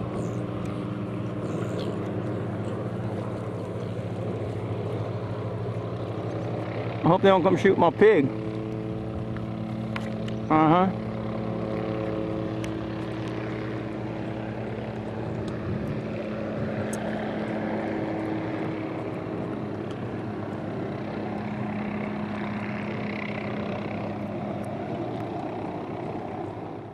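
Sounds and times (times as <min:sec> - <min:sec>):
helicopter drone: 0:00.0 - 0:26.9.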